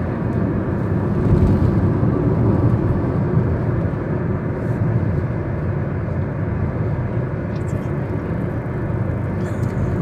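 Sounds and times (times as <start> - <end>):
car tyre and engine noise: 0.0 - 10.0.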